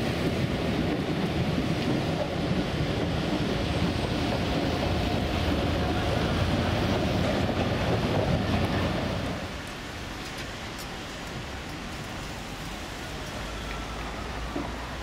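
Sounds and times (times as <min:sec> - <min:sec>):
street traffic rumble: 0:00.0 - 0:15.0
tram approaching: 0:00.0 - 0:15.0.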